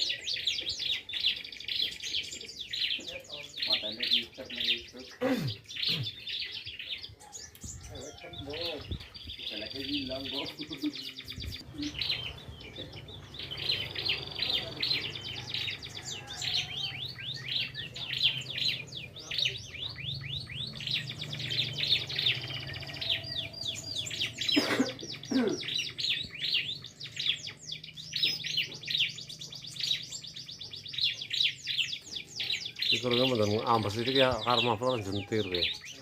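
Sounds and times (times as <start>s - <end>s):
bird sharp repeated chirps: 0.0s - 36.0s.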